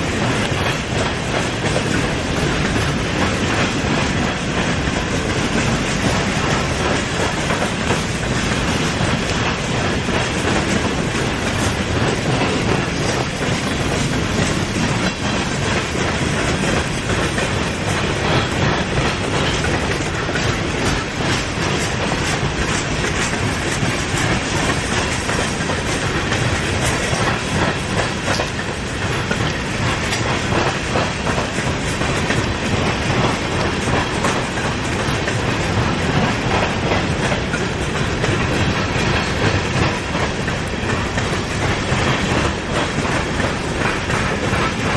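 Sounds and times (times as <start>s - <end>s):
freight train wheels clacking: 0.0s - 44.9s.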